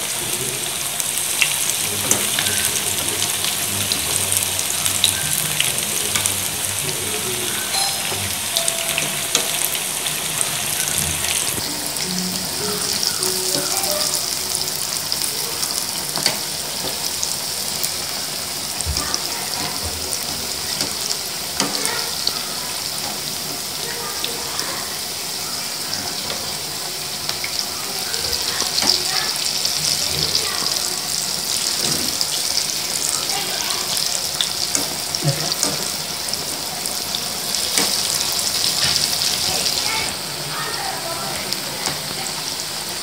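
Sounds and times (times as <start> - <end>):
fritters sizzling in oil: 0.0 - 43.0.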